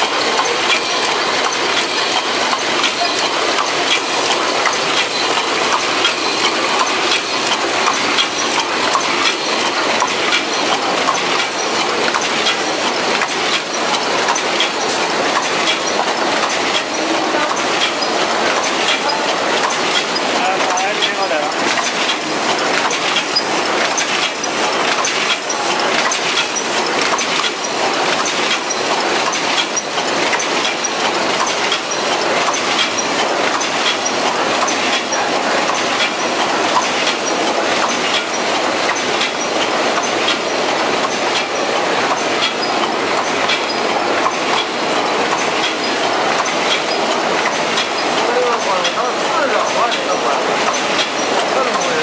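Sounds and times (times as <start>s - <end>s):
rapid machine clatter: 0.0s - 52.0s.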